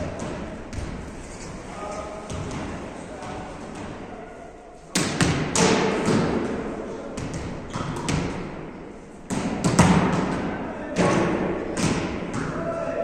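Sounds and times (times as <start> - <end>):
volleyballs smacking and bouncing: 0.0 - 4.2, 4.9 - 12.8.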